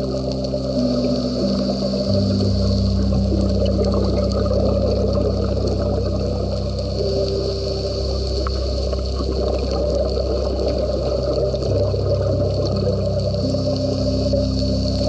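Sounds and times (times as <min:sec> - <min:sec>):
slow ambient music: 0:00.0 - 0:15.0
steady hiss: 0:00.0 - 0:15.0.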